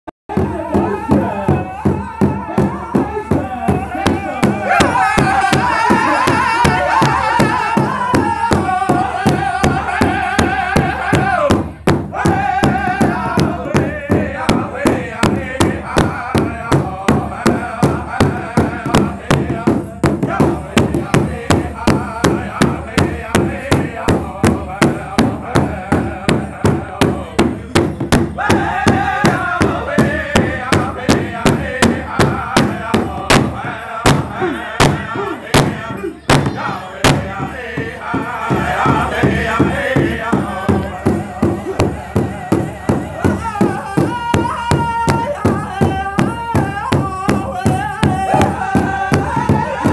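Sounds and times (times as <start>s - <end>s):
large drum beating: 0.3s - 49.9s
men singing together: 0.3s - 49.9s.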